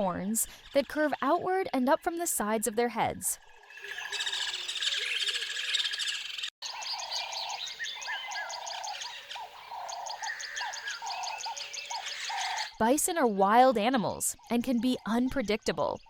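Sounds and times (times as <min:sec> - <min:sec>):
birds chirping and calling: 0:00.0 - 0:02.8, 0:03.4 - 0:16.0.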